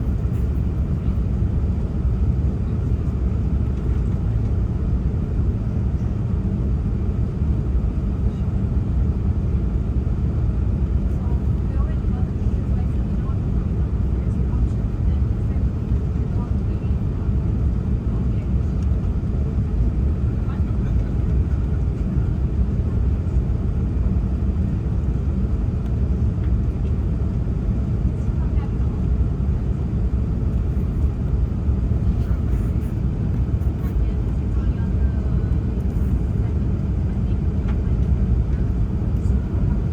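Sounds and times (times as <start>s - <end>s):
airliner rumbling on landing approach: 0.0s - 39.9s.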